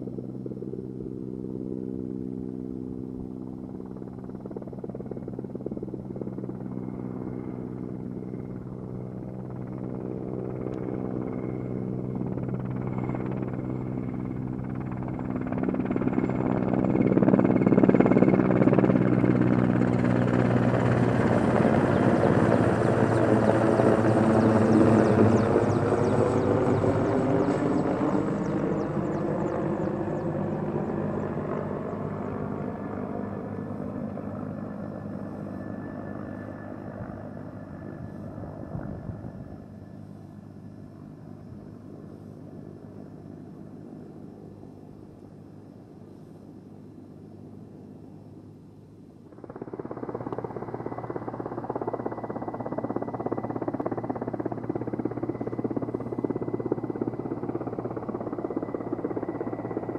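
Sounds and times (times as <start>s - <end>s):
helicopter flying past: 0.0s - 59.9s.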